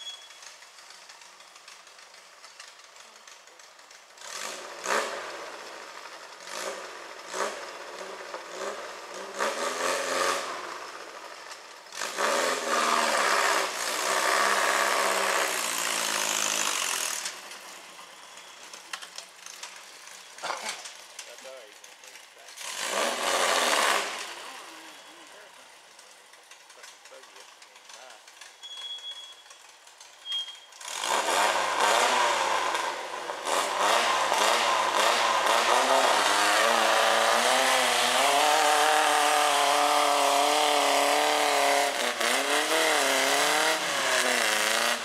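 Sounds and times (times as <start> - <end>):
buggy engine revving: 0.0 - 45.0.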